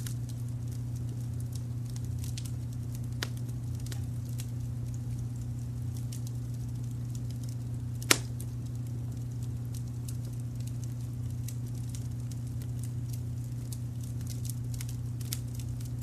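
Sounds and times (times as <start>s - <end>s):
low brown-noise rumble: 0.0s - 16.0s
wood fire crackling and popping: 0.0s - 16.0s.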